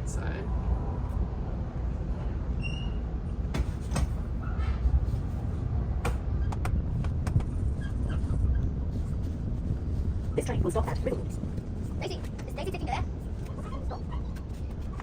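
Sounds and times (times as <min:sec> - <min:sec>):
train rumble from inside carriage: 0:00.0 - 0:15.0.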